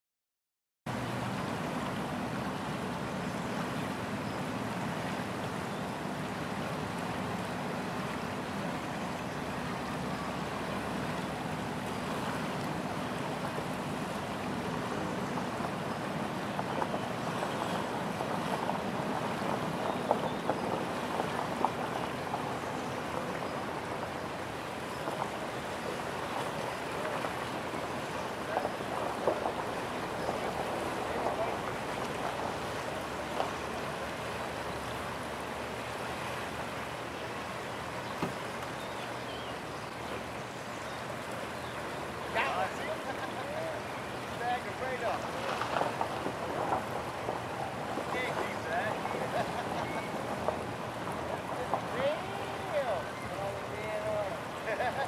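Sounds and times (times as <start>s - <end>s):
river water rushing: 0.9s - 55.0s
wind: 0.9s - 55.0s.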